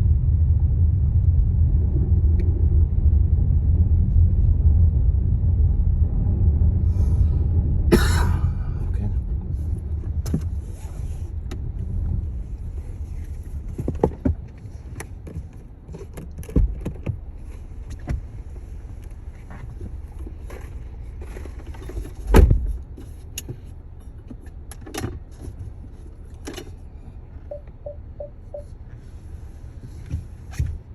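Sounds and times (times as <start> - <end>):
car road rumble inside cabin: 0.0 - 30.9.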